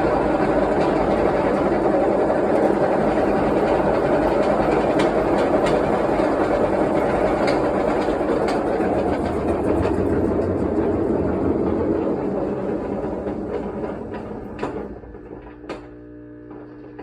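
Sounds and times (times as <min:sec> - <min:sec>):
washing machine running: 0:00.0 - 0:17.0.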